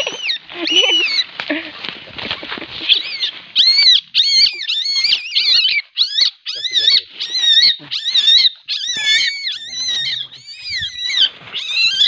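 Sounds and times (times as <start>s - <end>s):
civet squealing calls: 0.0s - 1.3s, 2.3s - 12.0s.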